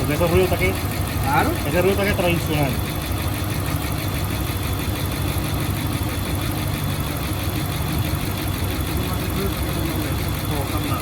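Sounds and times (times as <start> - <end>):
engine idling with valvetrain tick: 0.0 - 11.0.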